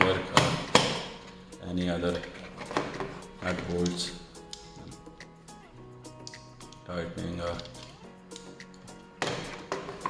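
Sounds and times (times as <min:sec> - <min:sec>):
background music with steady tones: 0:00.0 - 0:10.0.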